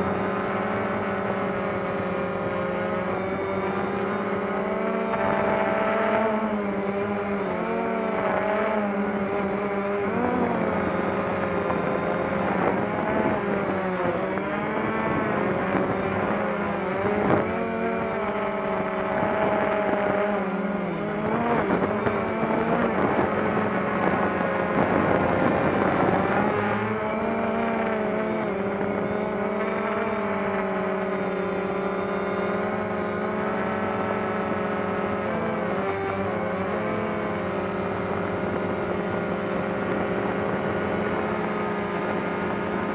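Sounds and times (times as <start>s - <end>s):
drone propellers humming: 0.0s - 42.9s.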